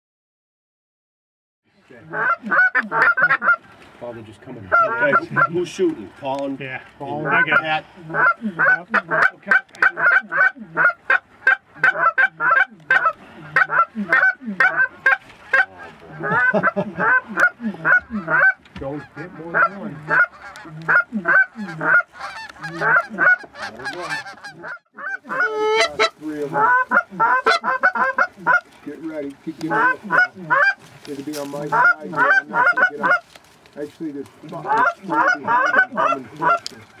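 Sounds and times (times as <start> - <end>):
geese honking: 2.0 - 37.0.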